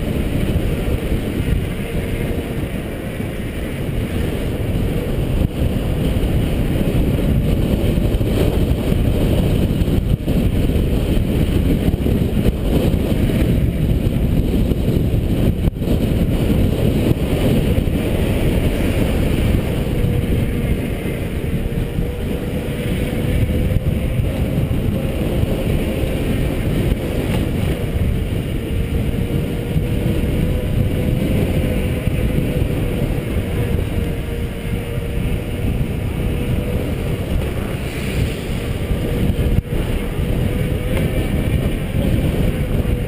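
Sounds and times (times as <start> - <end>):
bicycle tyre rumble on pavement: 0.0 - 43.0
faint steady brake whine: 0.0 - 43.0
wind buffeting microphone: 0.0 - 43.0.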